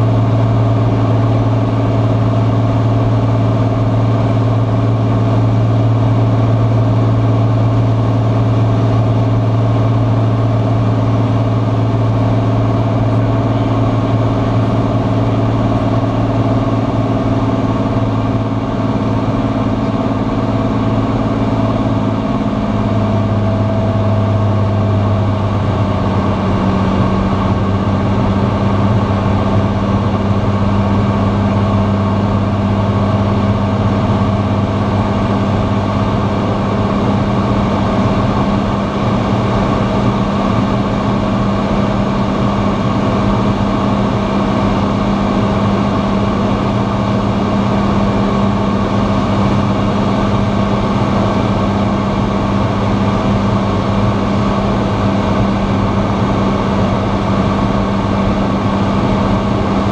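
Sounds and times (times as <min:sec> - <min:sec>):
aircraft engine droning: 0:00.0 - 0:59.9.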